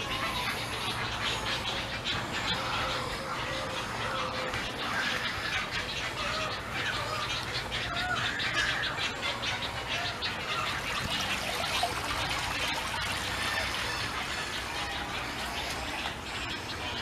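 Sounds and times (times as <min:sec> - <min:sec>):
birds squawking: 0:00.0 - 0:17.0.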